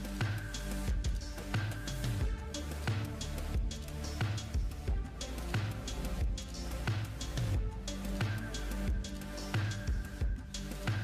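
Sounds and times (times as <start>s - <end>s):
bass: 0.0s - 11.0s
kick drum beat: 0.2s - 11.0s.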